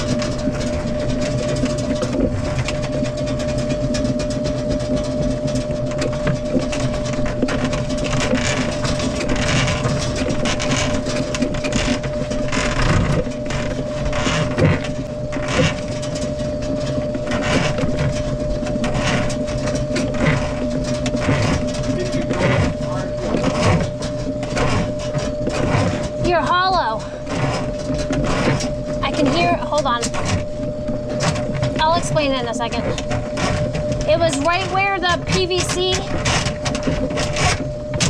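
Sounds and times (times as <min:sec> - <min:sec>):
cable scraping and rattling in pipe: 0:00.0 - 0:38.0
drain snake motor hum: 0:00.0 - 0:38.0.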